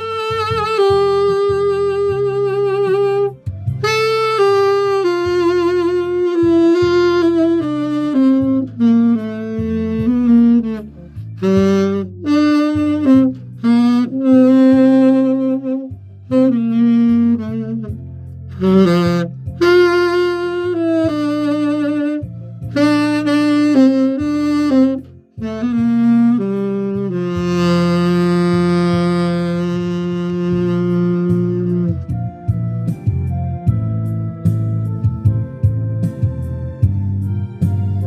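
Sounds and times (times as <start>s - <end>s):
backing track with bass: 0.0s - 38.0s
saxophone playing slow melody: 0.0s - 38.0s.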